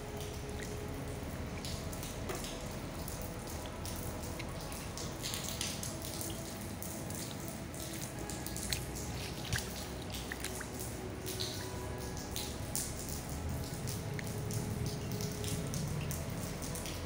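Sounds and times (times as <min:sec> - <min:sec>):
hiss of falling rain: 0:00.0 - 0:17.0
water dripping on tiled floor: 0:00.0 - 0:17.0.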